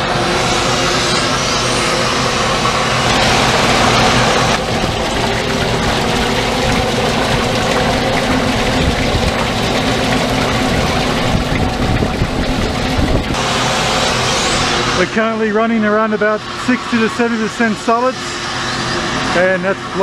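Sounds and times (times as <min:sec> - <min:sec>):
vacuum filtration machine hum: 0:00.0 - 0:20.0.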